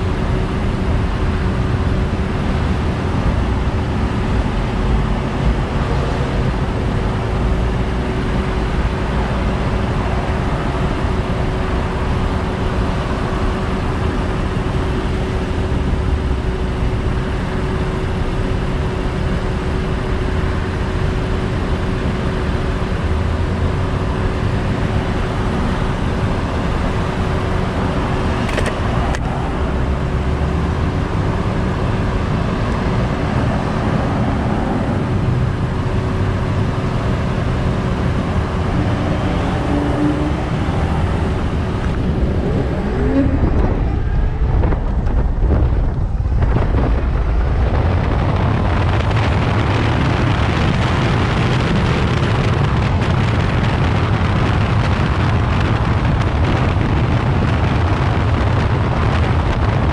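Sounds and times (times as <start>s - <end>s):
rumble of passing cars: 0.0s - 59.9s.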